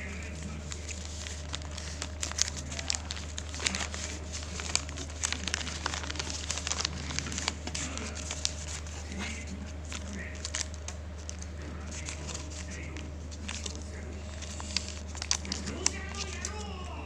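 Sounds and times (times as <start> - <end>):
paper wrapper crinkling: 0.0 - 17.0
steady low hum: 0.0 - 17.0.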